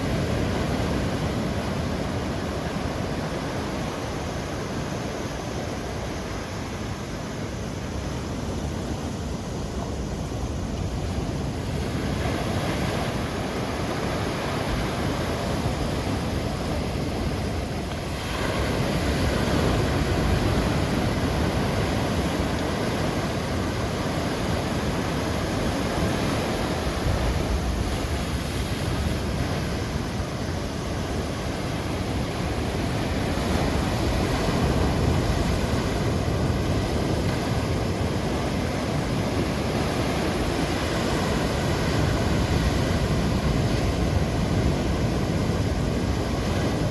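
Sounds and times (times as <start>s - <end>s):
heavy surf breaking on beach: 0.0s - 46.9s.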